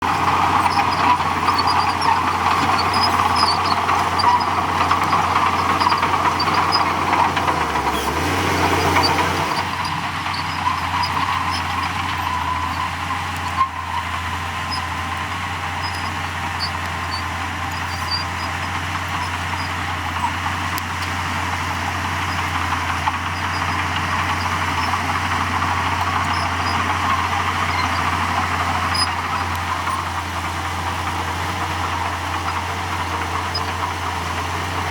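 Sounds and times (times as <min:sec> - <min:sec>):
diesel earthmoving machinery running: 0:00.0 - 0:34.9.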